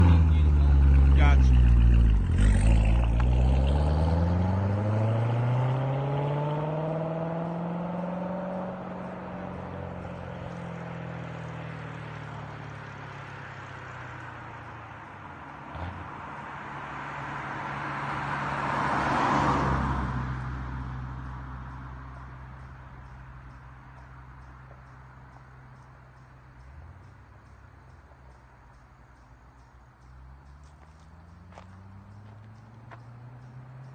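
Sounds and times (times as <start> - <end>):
sports car accelerating: 0.0 - 33.9
vehicle passing by: 0.0 - 33.9.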